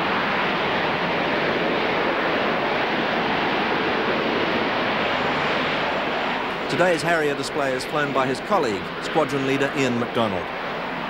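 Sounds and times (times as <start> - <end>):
jet engine hovering rush: 0.0 - 11.0.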